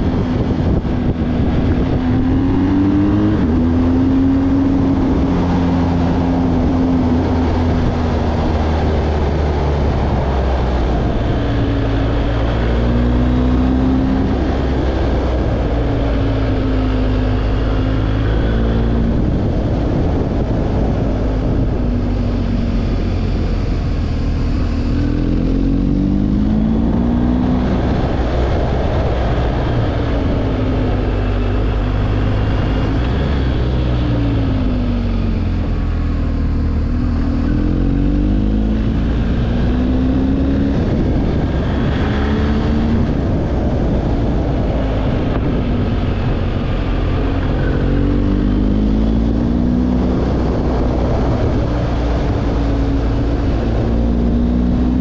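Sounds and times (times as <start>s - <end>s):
vehicle engine accelerating: 0.0s - 55.0s
wind rumble on microphone: 0.0s - 55.0s.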